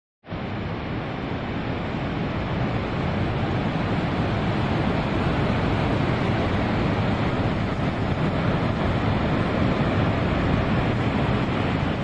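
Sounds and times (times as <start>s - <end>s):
water rushing from dam gates: 0.3s - 12.0s.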